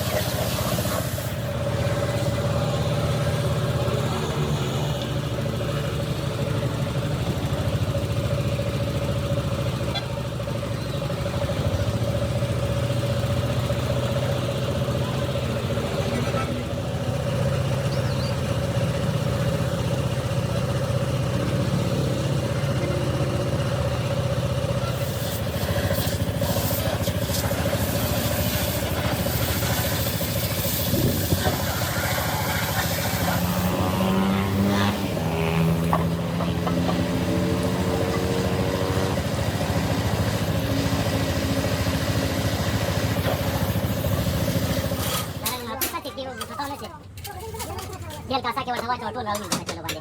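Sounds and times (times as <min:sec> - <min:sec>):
engine running: 0:00.0 - 0:48.3.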